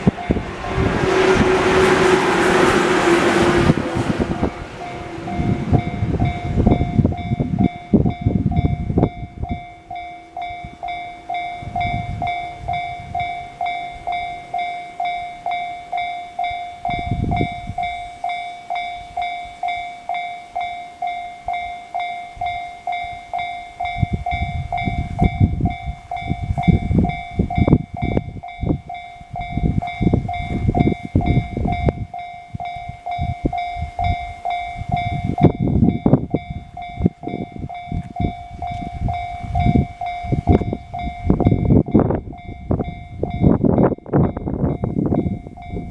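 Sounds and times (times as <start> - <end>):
train rumbling over rails: 0.0 - 45.9
level crossing bell dinging: 4.8 - 45.9.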